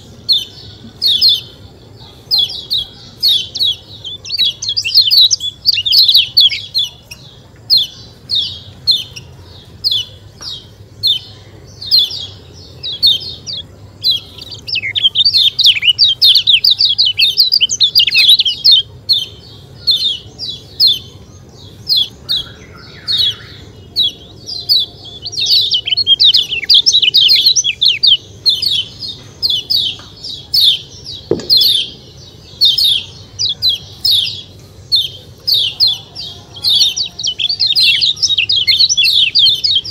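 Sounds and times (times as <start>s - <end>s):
bird chirping high falling chirps: 0.0s - 39.9s.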